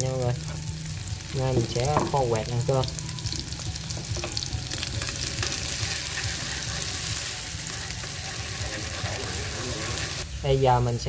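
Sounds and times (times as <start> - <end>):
shallots sizzling in oil: 0.0 - 11.0.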